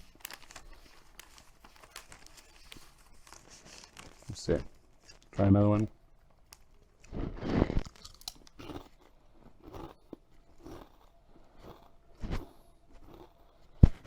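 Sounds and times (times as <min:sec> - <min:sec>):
person crunching crisps: 0:00.0 - 0:14.0.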